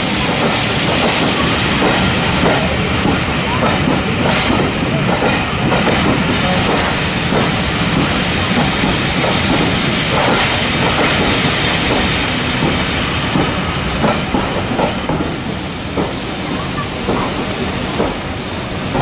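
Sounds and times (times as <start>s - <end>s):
train rolling on track: 0.0s - 19.0s
wheels clicking over rail joints: 0.0s - 19.0s.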